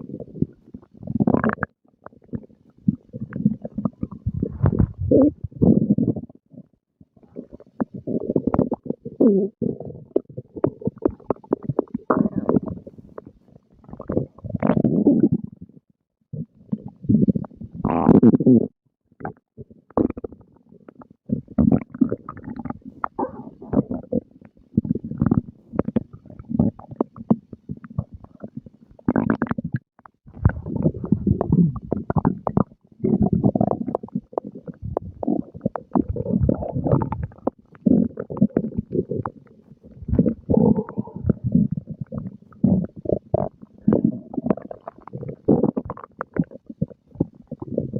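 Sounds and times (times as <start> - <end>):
stomach growling and gurgling: 0.0 - 47.9.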